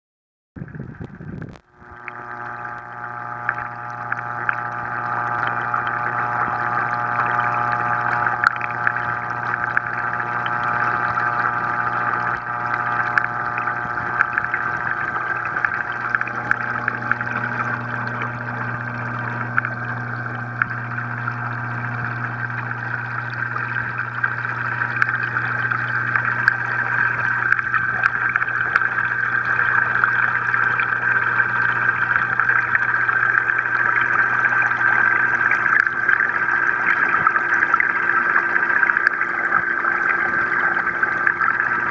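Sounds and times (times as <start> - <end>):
aquarium motor hum: 0.6 - 41.9
water trickling and gurgling: 0.6 - 41.9.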